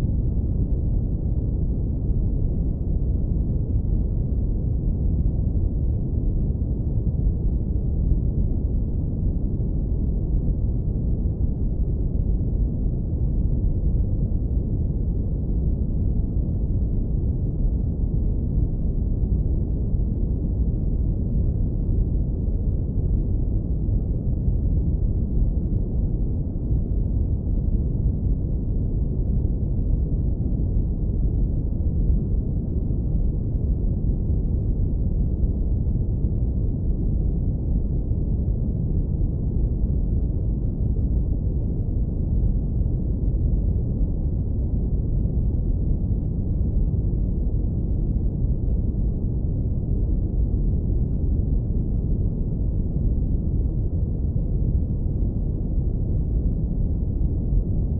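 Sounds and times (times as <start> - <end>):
brown noise low rumble: 0.0 - 57.9.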